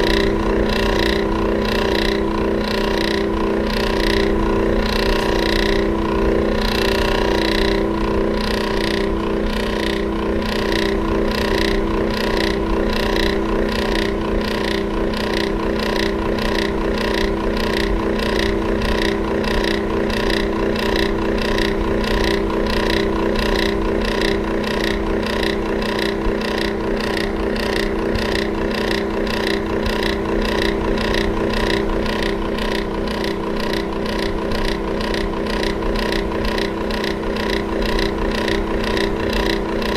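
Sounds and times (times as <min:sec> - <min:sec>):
electric fan humming: 0:00.0 - 0:39.9.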